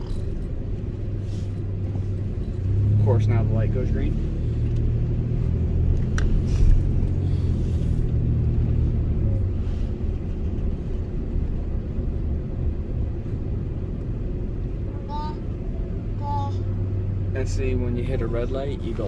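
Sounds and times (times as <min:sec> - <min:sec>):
road rumble: 0:00.0 - 0:19.0
truck engine running: 0:00.0 - 0:19.0.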